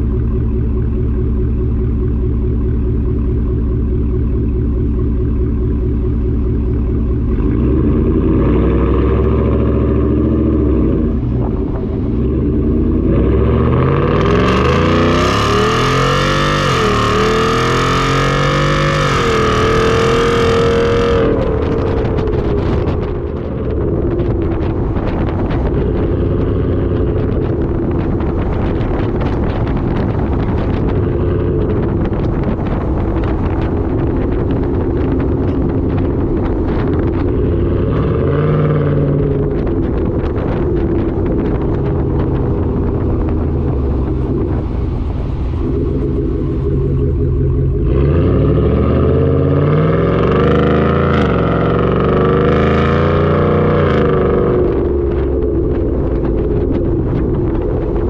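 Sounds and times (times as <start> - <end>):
truck engine exhaust while driving: 0.0 - 58.0.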